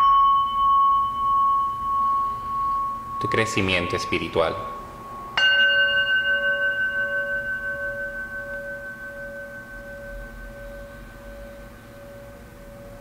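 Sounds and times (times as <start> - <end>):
metal singing bowl ringing: 0.0 - 13.0.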